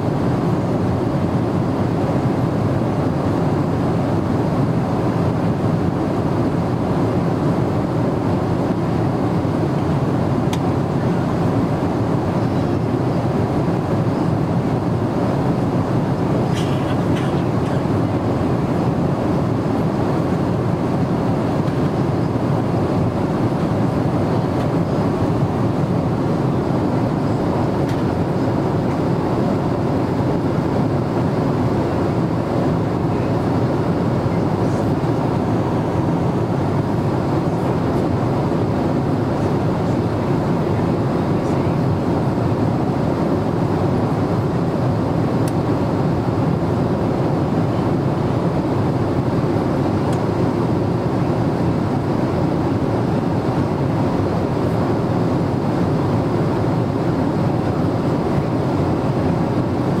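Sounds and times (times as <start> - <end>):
airplane cabin airflow and drone: 0.0 - 60.0.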